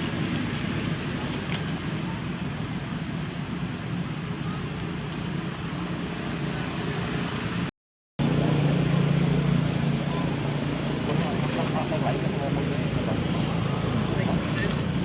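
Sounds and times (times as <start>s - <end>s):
constant high hiss: 0.0s - 15.0s.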